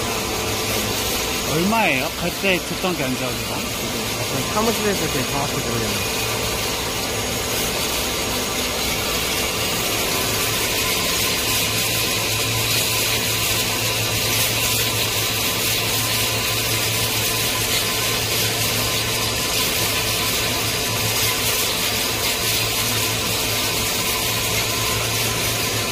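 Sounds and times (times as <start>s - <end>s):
machine low hum: 0.0s - 21.0s.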